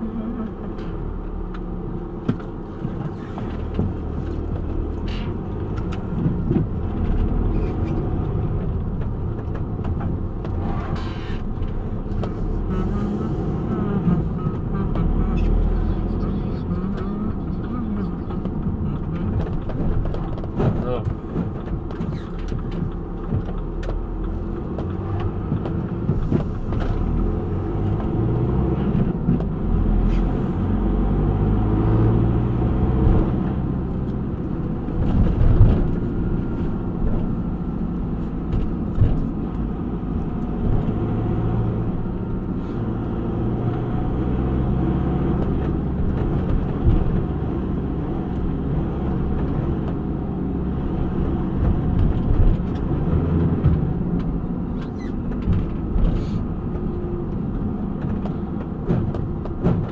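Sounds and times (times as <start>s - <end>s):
van engine and road noise: 0.0s - 59.9s.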